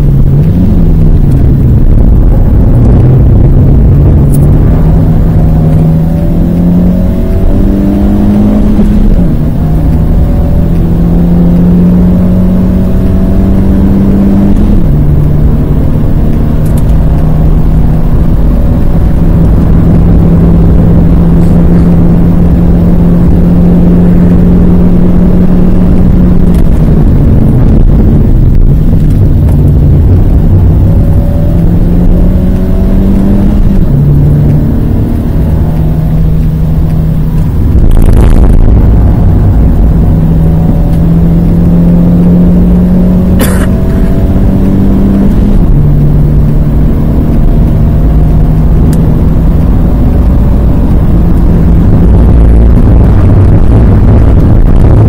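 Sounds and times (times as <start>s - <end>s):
car engine revving: 0.0s - 55.0s
rush of noise: 0.0s - 55.0s.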